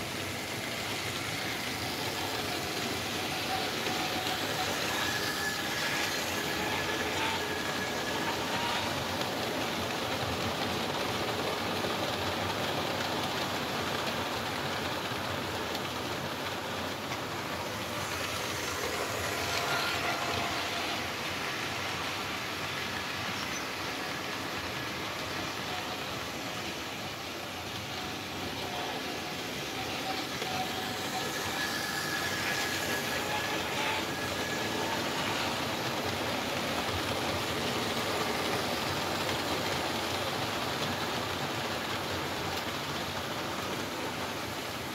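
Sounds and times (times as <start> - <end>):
model train wheels rattling: 0.0 - 44.4
faint motor whine: 0.0 - 44.9.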